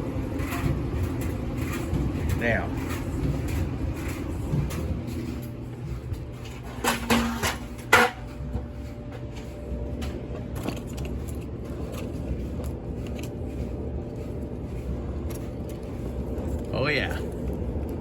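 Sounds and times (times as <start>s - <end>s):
dryer humming: 0.0s - 18.0s.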